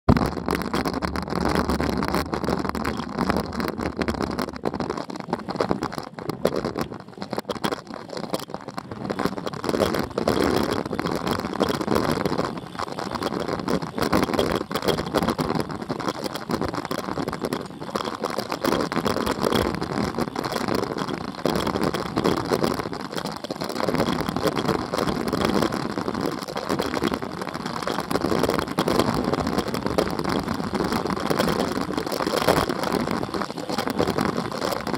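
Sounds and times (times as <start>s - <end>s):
tyre noise on rough asphalt: 0.1s - 34.9s.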